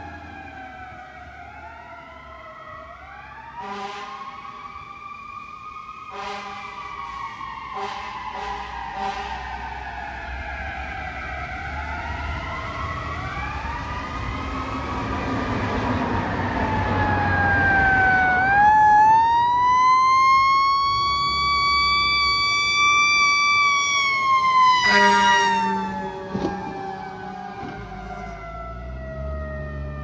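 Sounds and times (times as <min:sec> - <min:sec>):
fire truck sirens wailing: 0:00.0 - 0:30.0.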